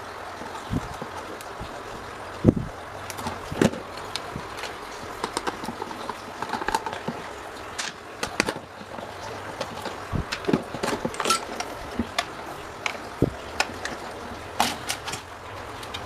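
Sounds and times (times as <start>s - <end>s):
tools and metal parts knocking: 3.1s - 16.0s.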